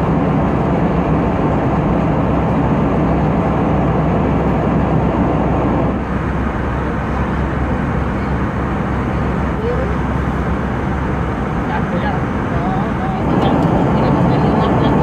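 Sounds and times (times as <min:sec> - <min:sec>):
airplane cabin noise: 0:00.0 - 0:15.0.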